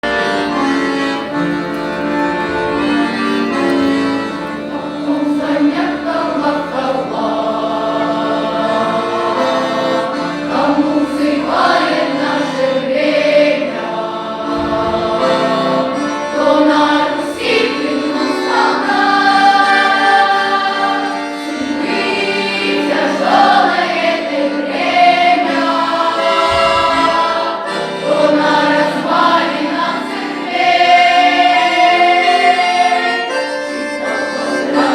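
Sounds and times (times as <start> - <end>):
children's choir singing: 0.0 - 34.9.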